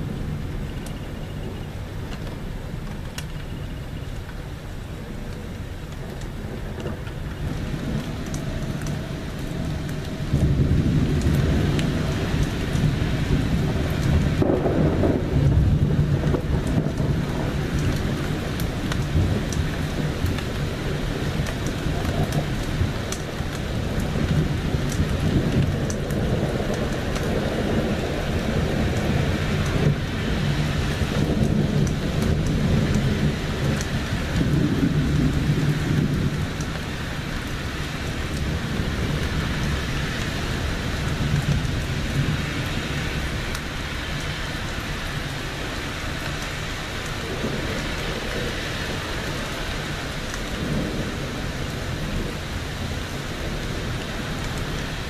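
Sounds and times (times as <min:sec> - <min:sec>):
heavy rain: 0:00.0 - 0:55.0
thunder rumbling: 0:05.2 - 0:55.0.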